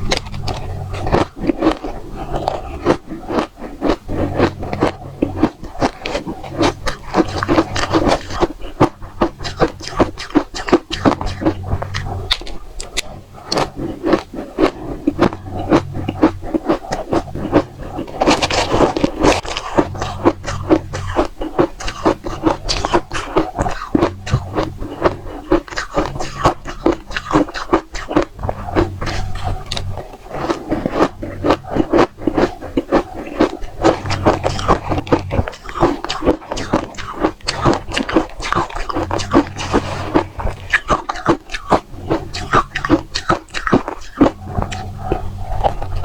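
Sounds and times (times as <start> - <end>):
ice being bitten and chewed: 0.0 - 46.0.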